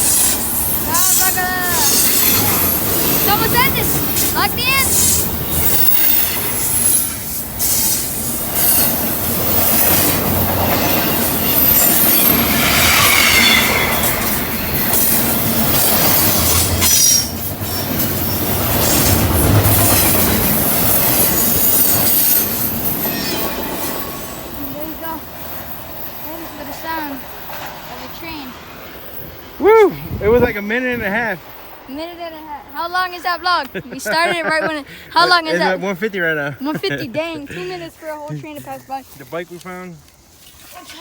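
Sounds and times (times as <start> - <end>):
wheels squealing on rails: 0.0 - 35.7
train wagons rumbling: 0.0 - 41.0.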